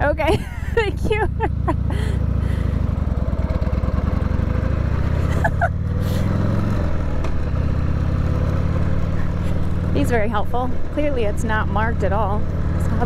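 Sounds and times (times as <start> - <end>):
motorcycle engine pulling away: 0.6 - 13.0.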